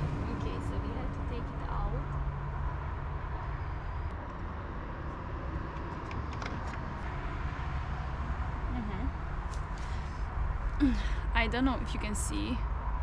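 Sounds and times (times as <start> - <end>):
truck engines rumbling: 0.0 - 13.0.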